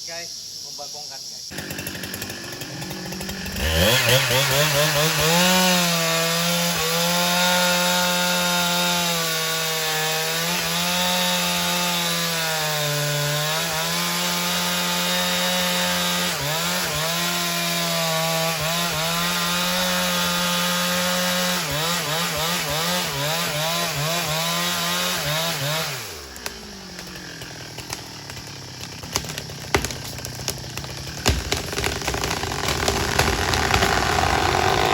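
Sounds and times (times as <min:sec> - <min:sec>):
chainsaw cutting wood: 0:01.5 - 0:34.9.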